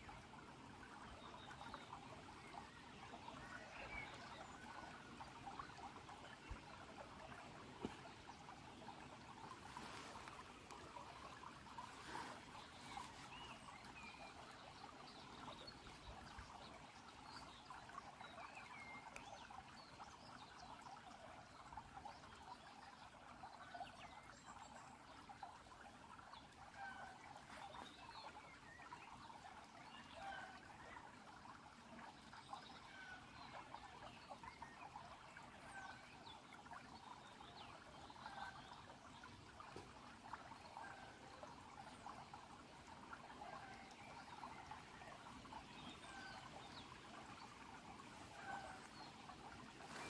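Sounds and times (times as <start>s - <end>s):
stream trickling over pebbles: 0.0s - 50.0s.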